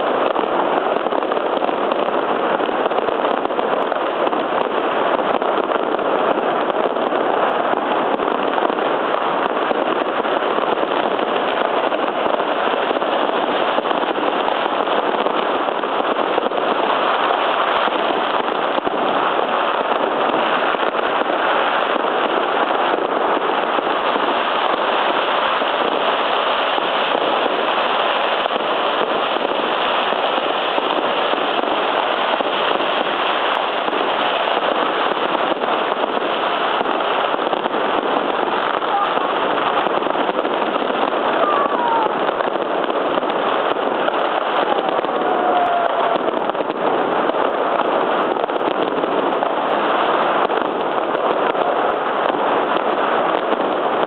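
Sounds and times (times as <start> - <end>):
fireworks and firecrackers banging: 0.0 - 54.0.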